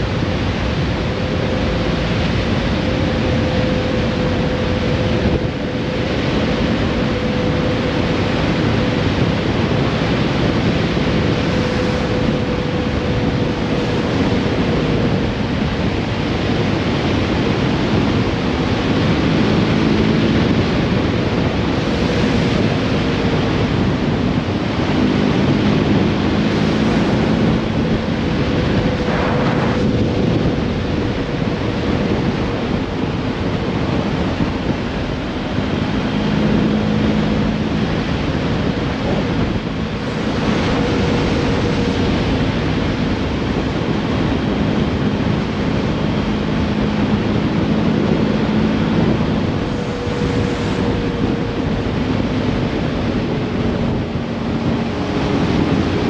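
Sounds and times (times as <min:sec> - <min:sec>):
tyre and road noise: 0:00.0 - 0:56.0
wind on microphone: 0:00.0 - 0:56.0.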